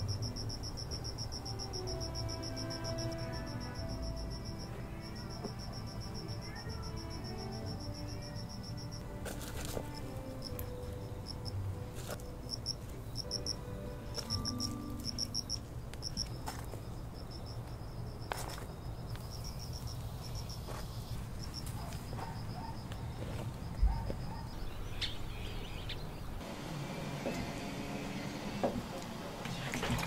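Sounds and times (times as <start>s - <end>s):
insect chirping in rapid pulses: 0.0s - 9.2s, 9.8s - 26.4s.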